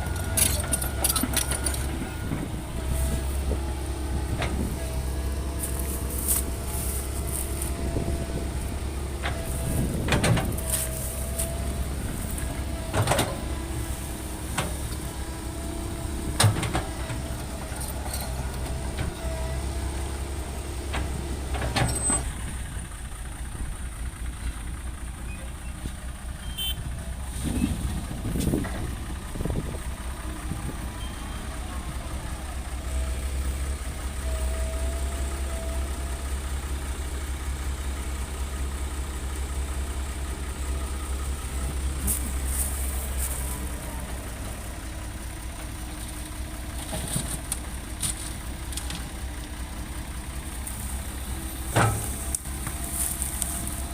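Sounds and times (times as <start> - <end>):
diesel machinery rumbling: 0.0 - 53.9.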